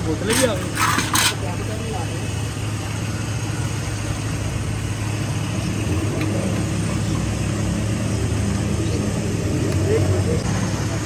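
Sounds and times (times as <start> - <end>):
busy street noise: 0.0 - 11.0
vehicle engine humming: 0.0 - 11.0.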